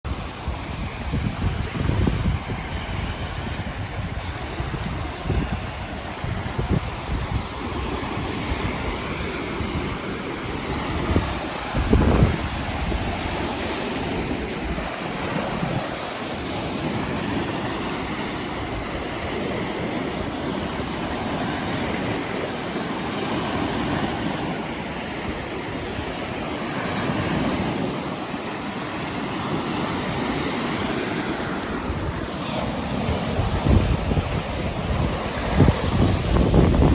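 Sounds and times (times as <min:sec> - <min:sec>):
lake waves breaking on shore: 0:00.1 - 0:36.9
wind buffeting microphone: 0:00.1 - 0:36.9.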